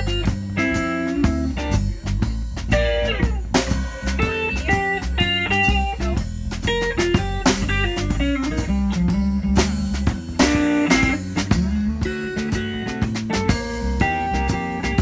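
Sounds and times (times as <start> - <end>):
drum kit: 0.0 - 15.0
electric bass: 0.0 - 15.0
electric guitar lead: 0.0 - 15.0.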